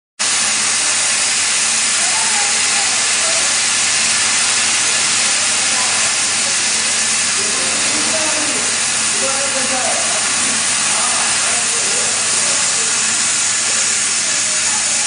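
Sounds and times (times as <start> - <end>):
cutting torch hissing: 0.2 - 15.0.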